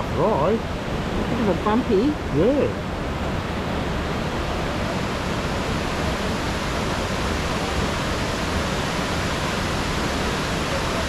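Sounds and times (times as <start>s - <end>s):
white water rushing over rocks: 0.0s - 11.0s.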